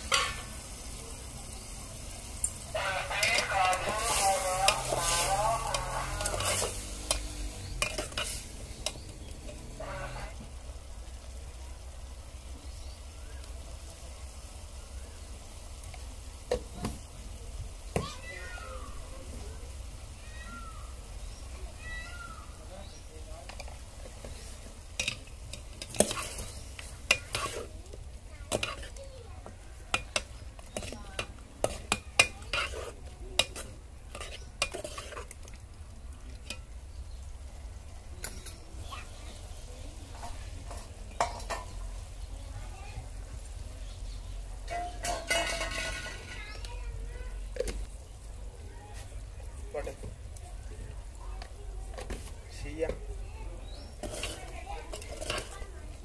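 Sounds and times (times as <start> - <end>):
chicken sizzling in a pot: 0.0 - 56.0.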